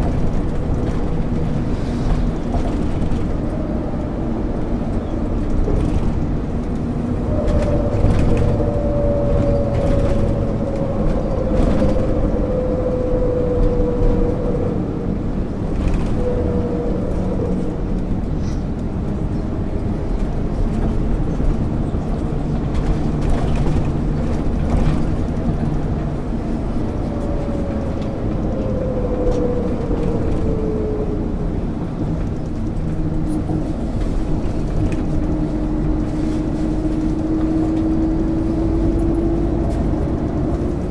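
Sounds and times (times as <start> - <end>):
bus engine and road rumble: 0.0 - 40.9.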